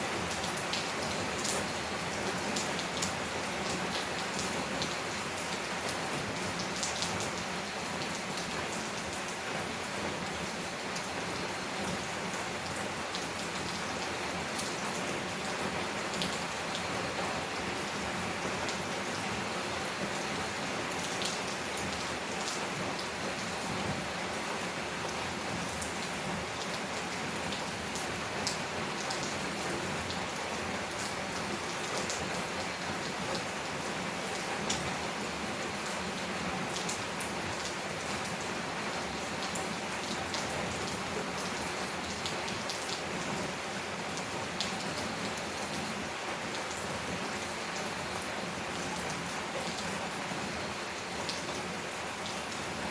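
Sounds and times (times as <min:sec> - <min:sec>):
heavy rain on a tin roof: 0:00.0 - 0:52.9.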